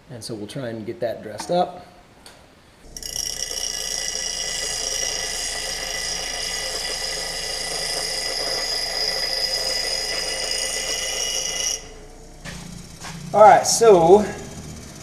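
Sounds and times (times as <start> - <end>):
grinder grinding metal: 2.9 - 15.0.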